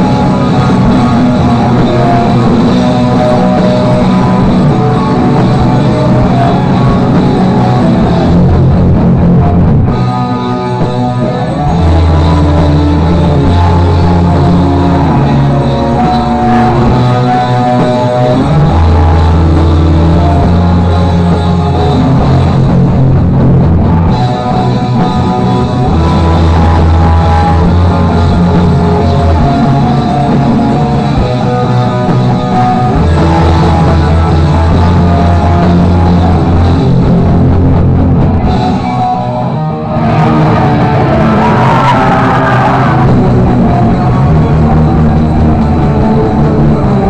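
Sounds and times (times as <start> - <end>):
bass guitar: 0.0 - 47.0
drums: 0.0 - 47.0
electric guitar: 0.0 - 47.0.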